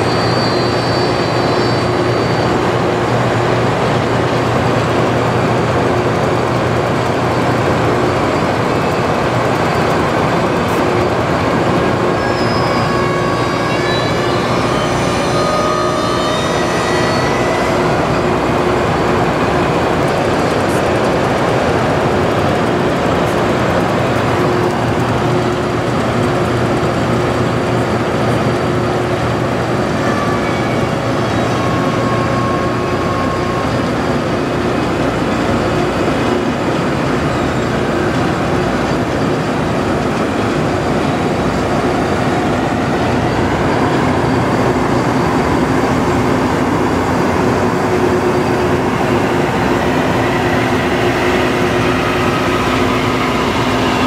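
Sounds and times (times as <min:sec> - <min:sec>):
rail grinder machinery noise: 0:00.0 - 0:54.0.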